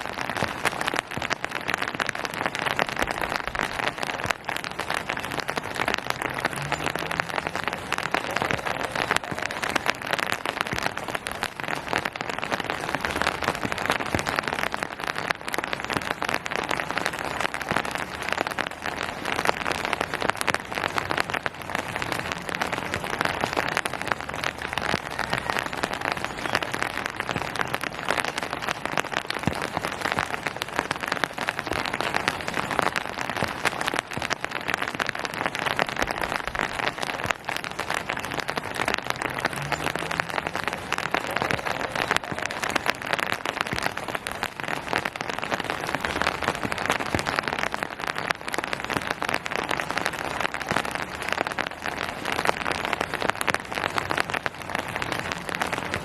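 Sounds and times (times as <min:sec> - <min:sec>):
rain on hard surfaces and foliage: 0:00.0 - 0:56.0.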